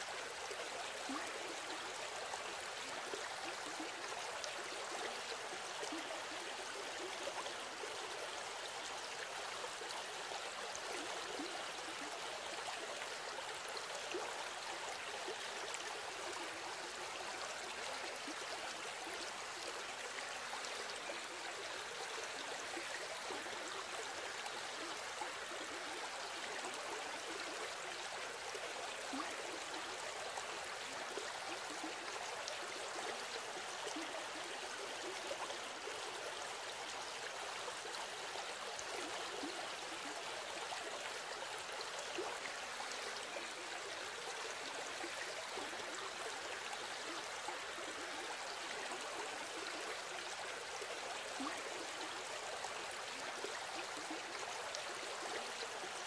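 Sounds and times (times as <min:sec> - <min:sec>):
running water babbling: 0:00.0 - 0:56.0.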